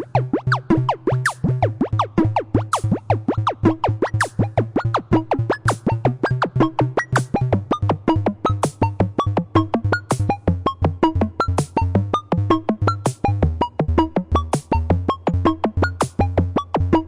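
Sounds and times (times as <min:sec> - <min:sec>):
pulsing low bass: 0:00.0 - 0:17.0.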